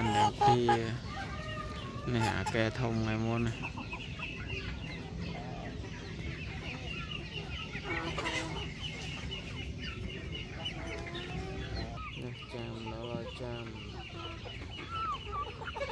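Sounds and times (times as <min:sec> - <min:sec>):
chickens clucking: 0:00.0 - 0:15.9.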